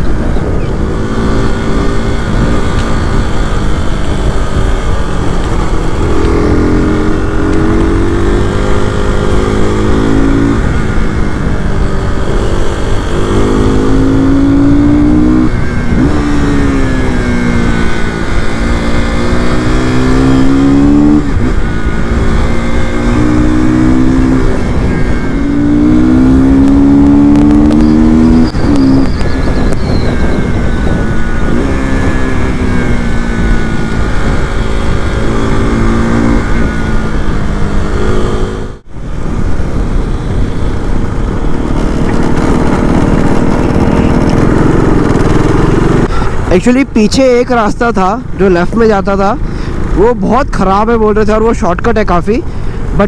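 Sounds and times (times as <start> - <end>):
motorcycle engine revving: 0.0 - 51.4
wind noise: 0.0 - 53.0.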